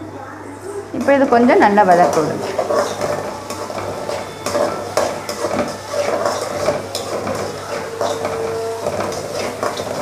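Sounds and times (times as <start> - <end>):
vegetables sizzling in oil: 0.9 - 10.0
spatula scraping a pan: 1.0 - 10.0.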